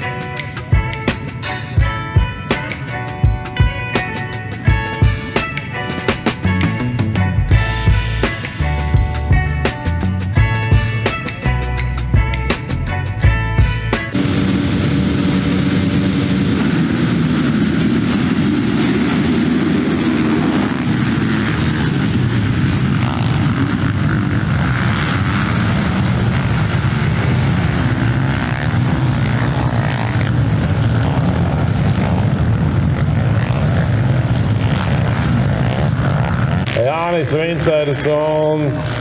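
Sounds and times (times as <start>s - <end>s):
motocross motorcycles racing: 0.0s - 39.0s.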